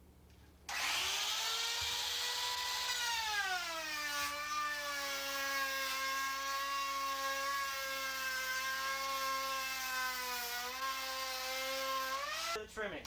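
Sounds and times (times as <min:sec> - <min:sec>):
router trimming laminate: 0:00.7 - 0:12.6.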